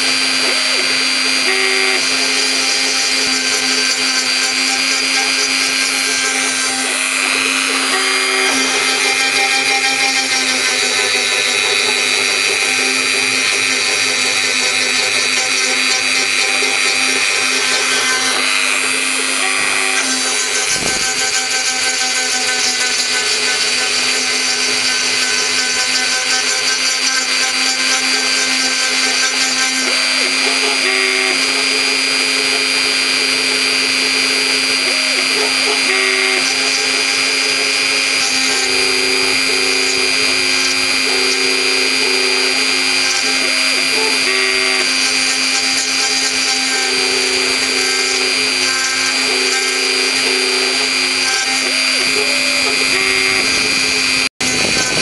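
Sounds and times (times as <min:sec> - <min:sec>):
router spindle whining: 0:00.0 - 0:55.0
stepper motors humming: 0:00.0 - 0:55.0.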